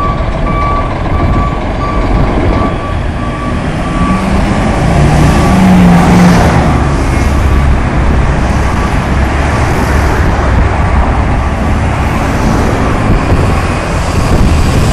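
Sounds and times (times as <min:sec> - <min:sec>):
diesel truck engine rumbling: 0:00.0 - 0:14.9
street traffic passing: 0:00.0 - 0:14.9.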